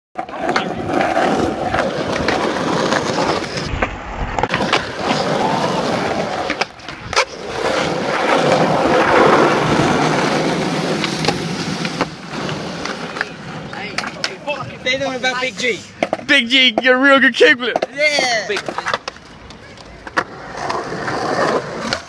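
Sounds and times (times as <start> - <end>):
skateboard clacks: 0.2 - 15.1, 16.0 - 17.0, 17.6 - 22.0
skateboard wheels rolling on concrete: 0.2 - 22.0.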